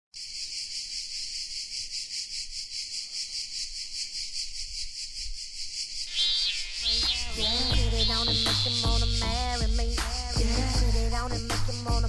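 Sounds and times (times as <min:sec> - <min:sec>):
insect chorus buzzing: 0:00.1 - 0:12.0.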